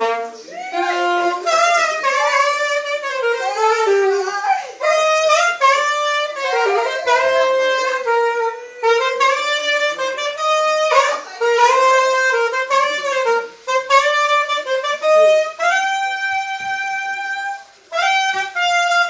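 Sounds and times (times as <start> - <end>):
saxophone melody: 0.0 - 19.0.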